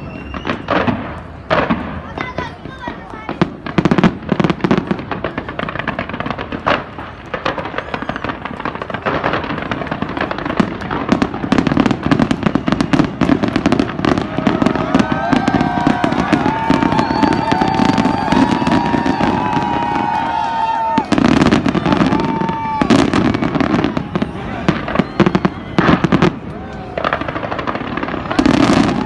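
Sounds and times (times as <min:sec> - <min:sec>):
fireworks bangs and crackling: 0:00.0 - 0:29.0
high whistling fireworks: 0:00.0 - 0:29.0.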